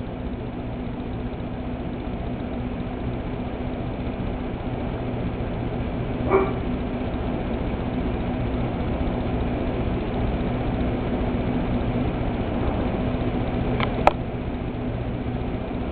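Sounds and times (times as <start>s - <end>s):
low machine hum with hiss: 0.0s - 15.9s.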